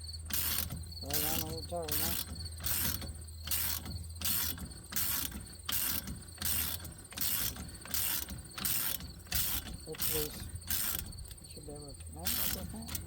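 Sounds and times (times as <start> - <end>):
ratchet wrench clicking: 0.3 - 13.0.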